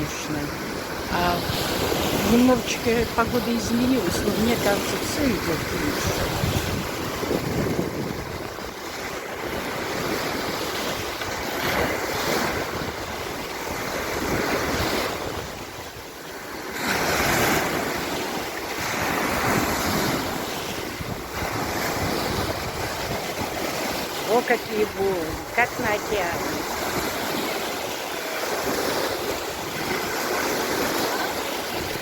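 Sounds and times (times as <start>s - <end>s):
wind buffeting microphone: 0.0s - 16.2s, 16.8s - 27.9s
surf breaking on shore: 0.0s - 32.0s.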